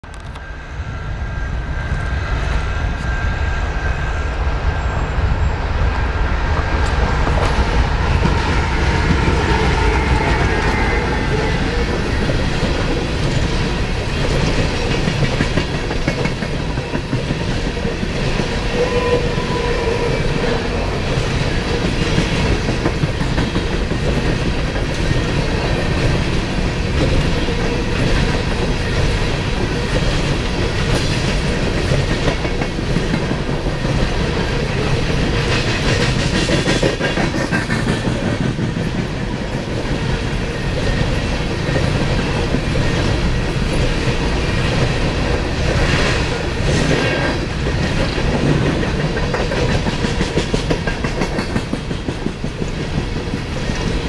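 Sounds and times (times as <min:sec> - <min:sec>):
diesel locomotive rumble: 0:00.0 - 0:54.0
train cars clickety-clack: 0:01.6 - 0:54.0.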